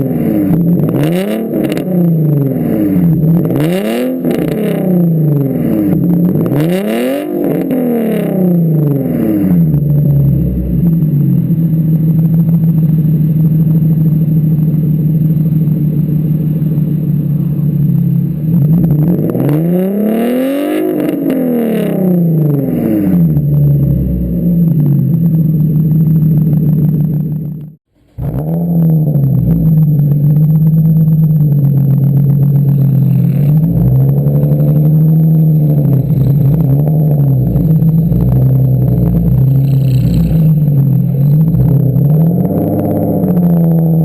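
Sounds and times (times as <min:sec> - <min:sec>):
car engine revving and idling: 0:00.0 - 0:44.0.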